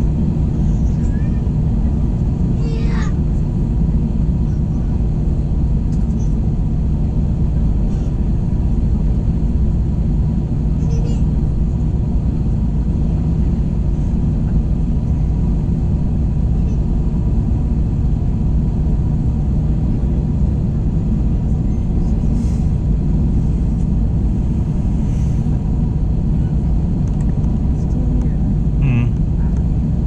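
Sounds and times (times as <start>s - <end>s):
airplane cabin rumble: 0.0s - 30.0s
faint steady hums: 5.6s - 30.0s.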